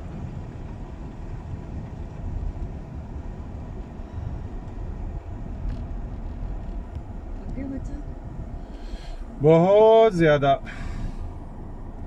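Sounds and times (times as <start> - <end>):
car rumbling on the move: 0.0 - 12.0.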